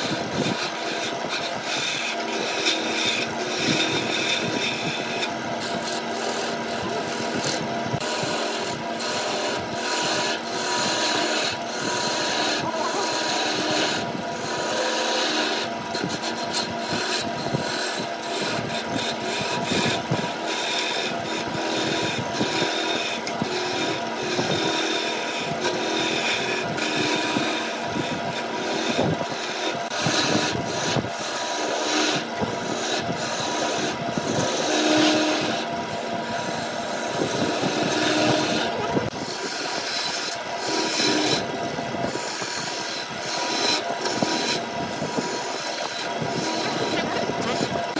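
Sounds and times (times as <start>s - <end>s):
lathe motor whine: 0.0s - 47.9s
tool scraping spinning wood: 0.0s - 47.9s.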